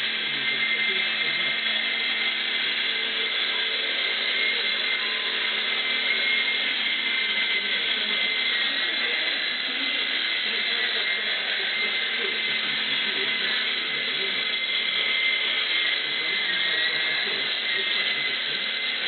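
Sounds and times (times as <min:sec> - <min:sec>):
toy helicopter rotor whine: 0:00.0 - 0:19.0.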